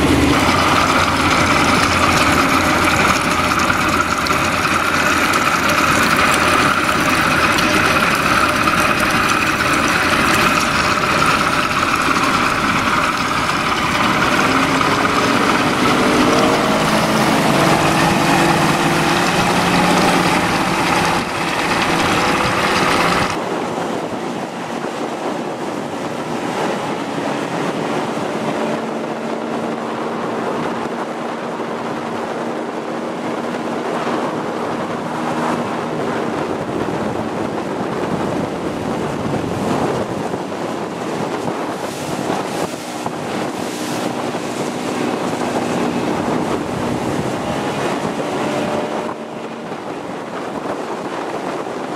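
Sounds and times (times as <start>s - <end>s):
outboard motors running: 0.0s - 51.9s
water rushing past hull: 0.0s - 51.9s
wind buffeting microphone: 0.0s - 51.9s.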